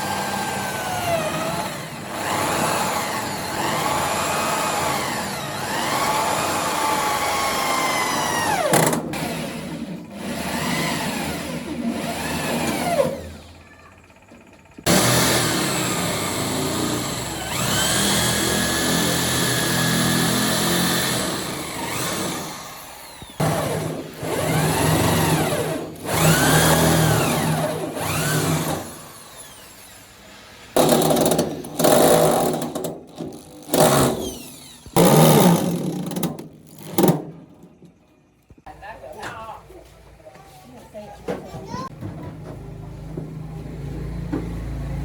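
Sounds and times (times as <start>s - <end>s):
electric power tool motor whining: 0.0s - 37.2s.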